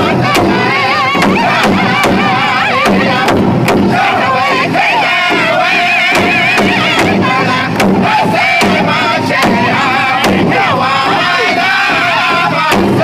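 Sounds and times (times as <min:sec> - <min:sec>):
large hide drum beats: 0:00.0 - 0:13.0
men singing in high voices: 0:00.0 - 0:13.0.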